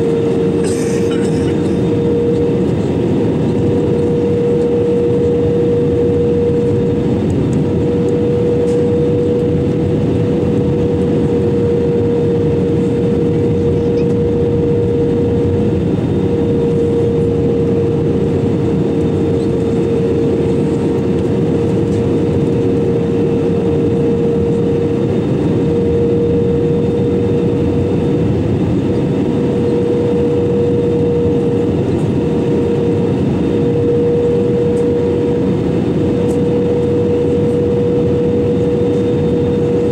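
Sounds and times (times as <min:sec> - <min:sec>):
airflow and engine noise: 0:00.0 - 0:39.9
constant hum: 0:00.0 - 0:39.9.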